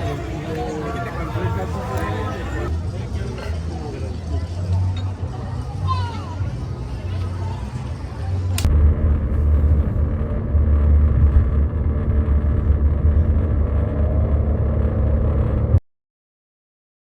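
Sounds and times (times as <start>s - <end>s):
vehicle engine rumbling: 0.0s - 15.8s.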